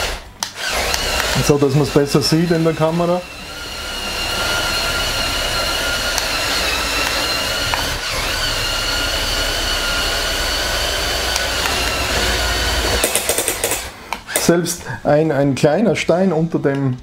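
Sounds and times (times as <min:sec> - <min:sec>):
high electric motor whine: 0:00.0 - 0:14.0.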